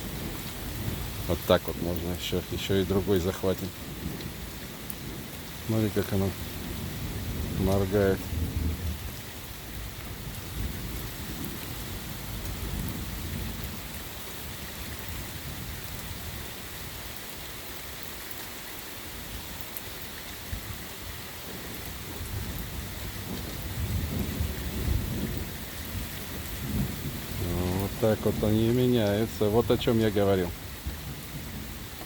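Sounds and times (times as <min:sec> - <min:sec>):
thunder rumbling: 0:00.0 - 0:16.6, 0:21.4 - 0:32.0
heavy rain pouring: 0:00.0 - 0:32.0.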